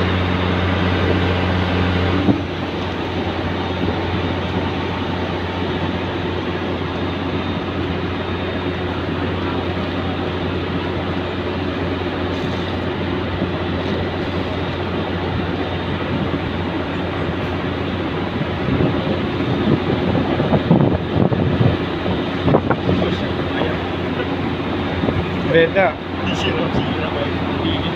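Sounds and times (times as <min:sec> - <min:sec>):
ferry engines droning: 0:00.0 - 0:27.9.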